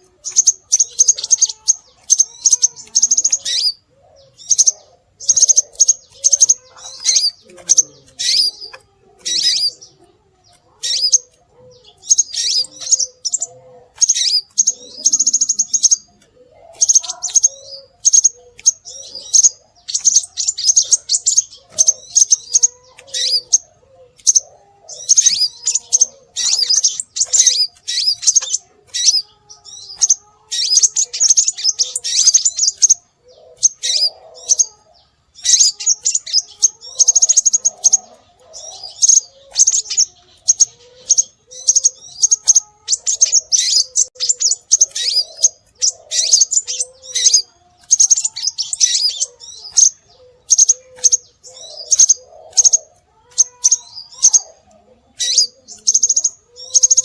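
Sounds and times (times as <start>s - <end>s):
bird chirping high-pitched: 0.0s - 57.0s.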